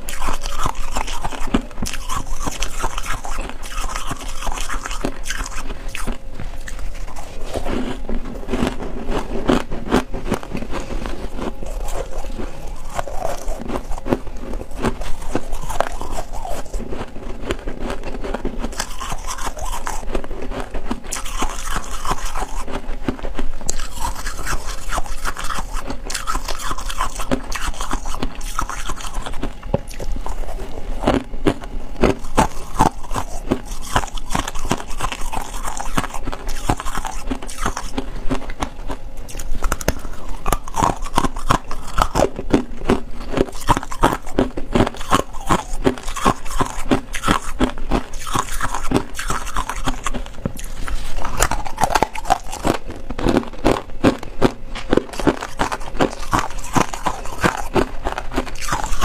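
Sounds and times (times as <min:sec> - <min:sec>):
ice being chewed crunching: 0:00.0 - 0:59.0.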